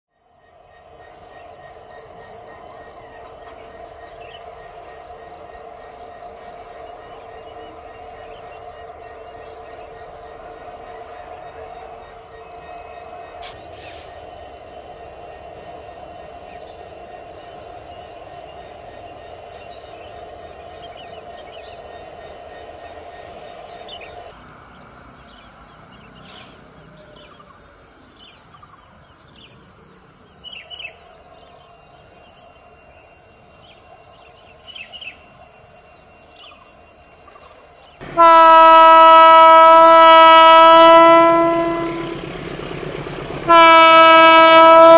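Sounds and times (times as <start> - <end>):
insects chorus pulsing: 0.1 - 44.9.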